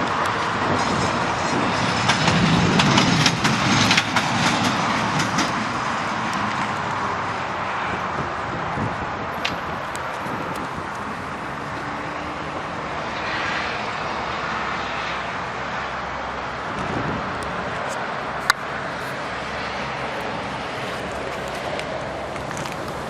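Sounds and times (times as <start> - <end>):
vehicle and road noise: 0.0 - 23.0.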